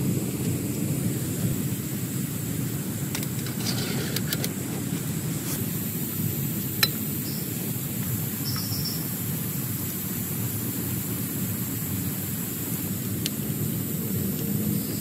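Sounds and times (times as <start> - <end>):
heavy rain on a tent: 0.0 - 15.0.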